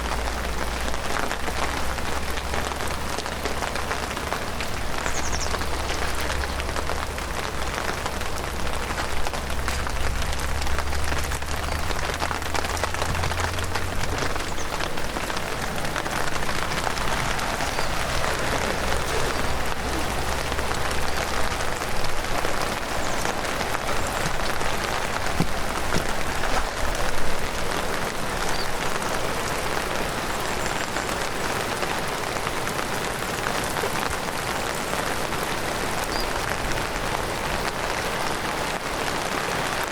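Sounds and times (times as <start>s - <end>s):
heavy rain on ground and vegetation: 0.0s - 39.9s.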